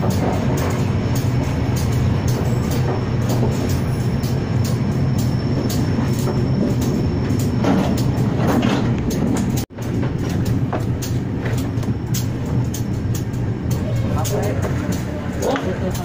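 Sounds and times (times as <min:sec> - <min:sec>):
train clicks and rattles: 0:00.0 - 0:16.0
train rumble and hum: 0:00.0 - 0:16.0.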